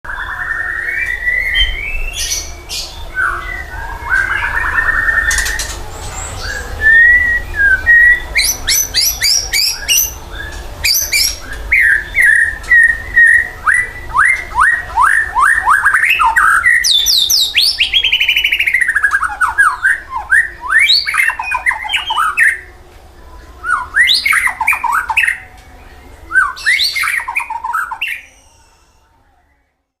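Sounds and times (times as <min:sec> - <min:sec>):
songbird singing with trills: 0:00.1 - 0:22.7, 0:23.4 - 0:29.1.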